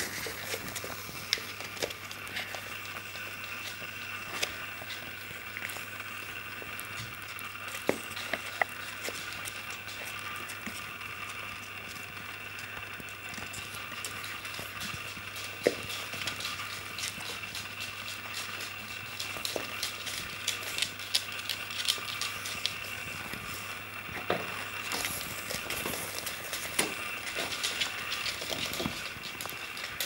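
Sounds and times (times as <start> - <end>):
claws clicking on wooden floor: 0.0 - 30.0
faint steady hum: 0.0 - 30.0.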